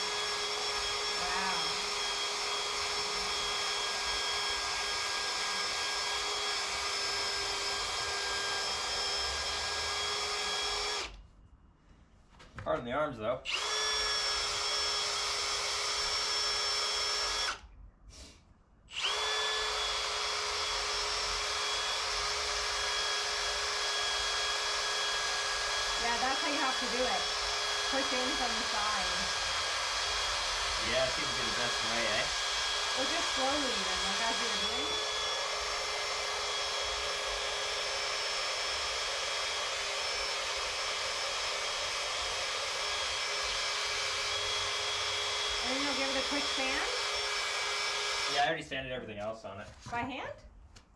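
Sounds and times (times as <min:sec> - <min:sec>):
electric drill whining: 0:00.0 - 0:11.2, 0:13.5 - 0:17.7, 0:18.9 - 0:48.5.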